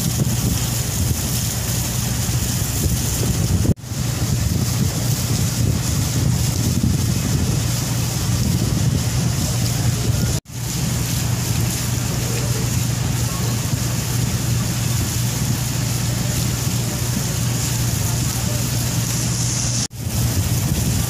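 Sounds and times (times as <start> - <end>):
boat engine drone: 0.0 - 21.0
rush of wind and water: 0.0 - 21.0.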